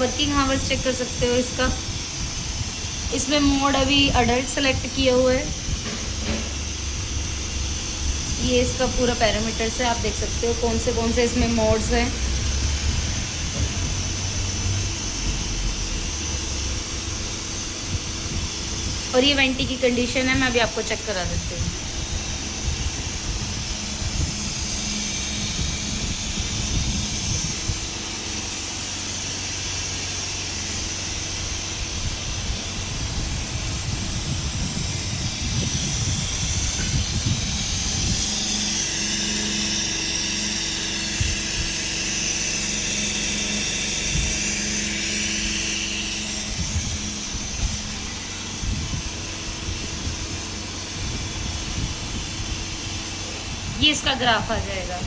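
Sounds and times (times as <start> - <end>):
ventilator hum with gas hiss: 0.0 - 55.0.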